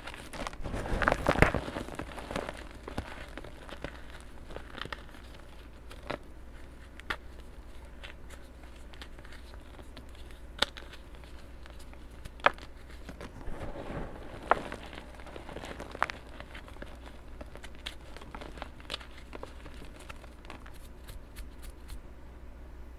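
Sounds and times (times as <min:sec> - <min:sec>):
hands crushing chalky chunks: 0:00.0 - 0:22.0.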